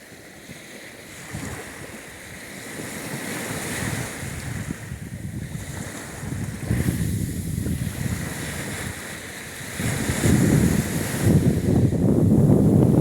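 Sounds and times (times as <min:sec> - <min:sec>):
surf washing onto shore: 0:00.0 - 0:13.0
wind rumbling on microphone: 0:00.5 - 0:13.0.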